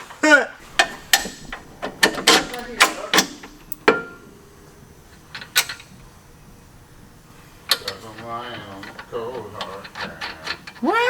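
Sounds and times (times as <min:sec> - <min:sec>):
metal tools clicking and clanking: 0:00.6 - 0:10.9.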